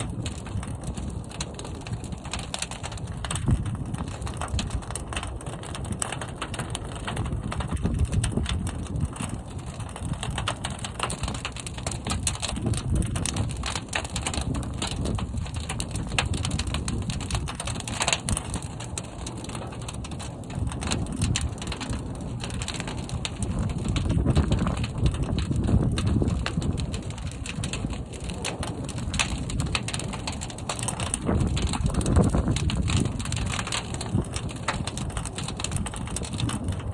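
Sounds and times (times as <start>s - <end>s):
fire crackling and popping: 0.0s - 36.9s
fire rumbling in a kiln: 0.0s - 36.9s.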